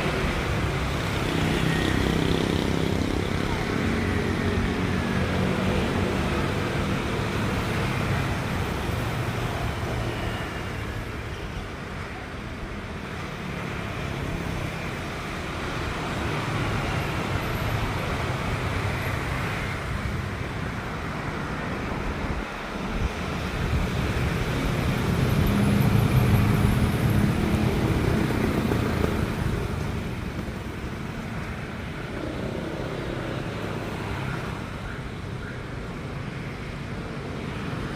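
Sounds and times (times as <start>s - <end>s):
traffic noise: 0.0s - 37.9s.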